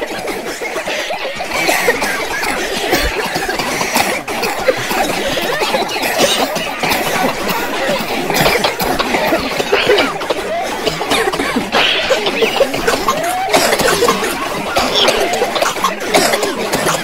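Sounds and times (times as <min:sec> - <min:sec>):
crowd chatter: 0:00.0 - 0:17.0
crowd coughing: 0:00.0 - 0:17.0
people laughing: 0:00.0 - 0:17.0.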